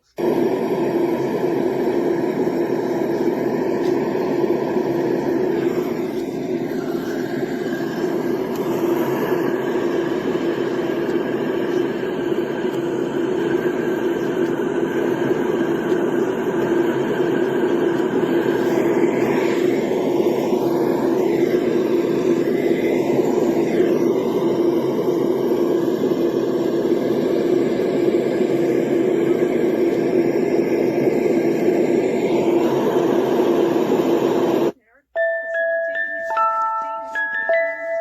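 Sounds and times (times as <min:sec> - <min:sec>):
noise machine rushing noise: 0:00.0 - 0:34.8.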